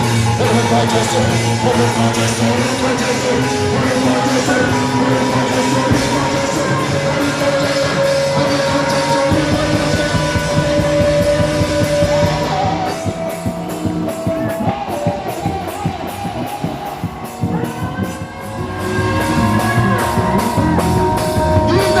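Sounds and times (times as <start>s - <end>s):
rock music with singing: 0.0s - 22.0s.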